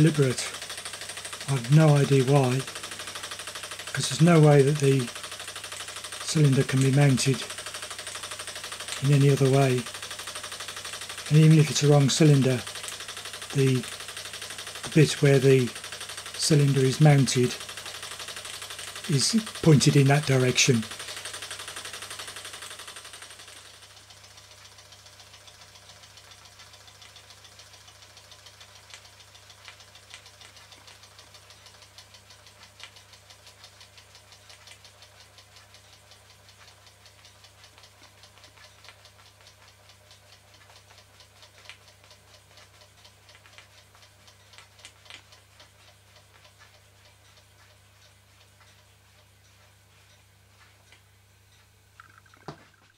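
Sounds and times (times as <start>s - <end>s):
toy steam engine ticking: 0.0s - 52.9s.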